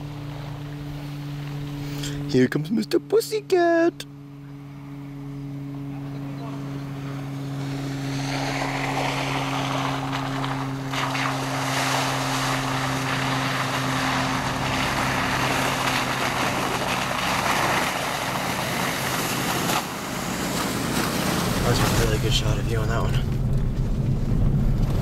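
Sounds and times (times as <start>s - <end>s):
steady low hum: 0.0s - 25.0s
vehicle engine and tyres in mud: 0.0s - 25.0s.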